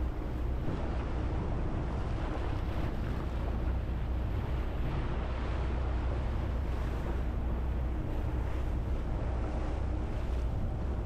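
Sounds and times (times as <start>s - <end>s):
motorboat engine running: 0.0s - 11.0s
water rushing past hull: 0.0s - 11.0s
wind on microphone: 0.0s - 11.0s.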